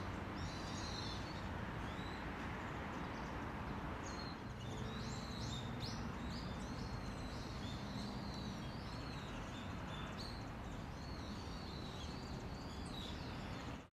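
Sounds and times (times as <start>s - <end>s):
small songbirds chirping: 0.0s - 13.9s.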